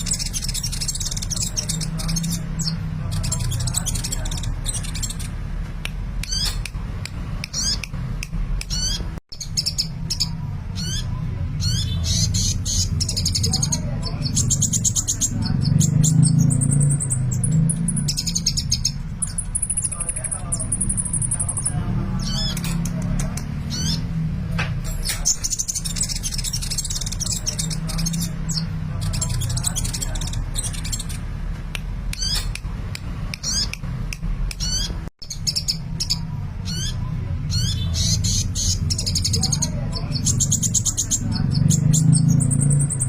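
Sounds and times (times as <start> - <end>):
bird chirping high and thin: 0.0 - 5.4, 6.2 - 6.7, 7.4 - 7.9, 8.6 - 22.8, 23.6 - 24.2, 24.8 - 31.3, 32.1 - 32.6, 33.4 - 33.8, 34.6 - 43.0.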